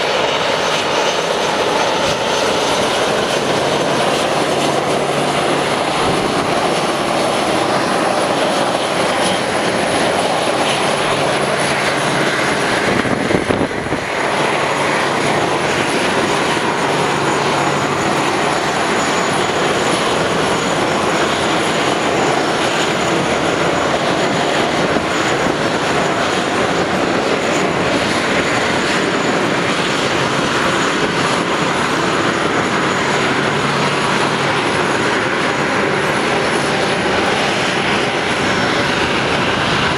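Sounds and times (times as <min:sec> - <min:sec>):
jet engines at taxi power: 0:00.0 - 0:39.9.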